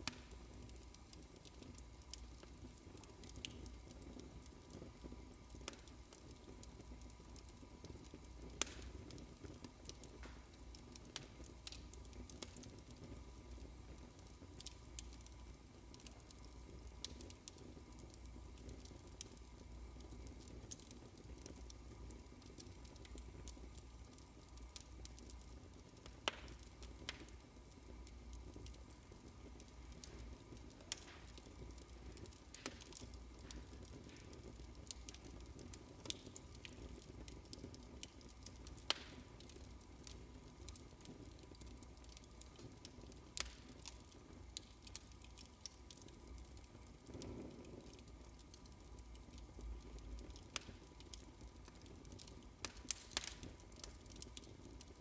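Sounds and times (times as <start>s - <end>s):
fireplace crackling: 0.0s - 55.0s.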